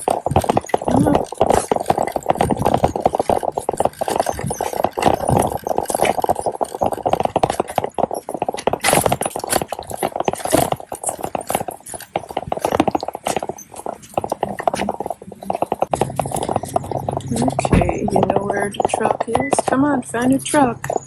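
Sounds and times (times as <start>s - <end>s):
shopping cart rattling on pavement: 0.0s - 21.0s.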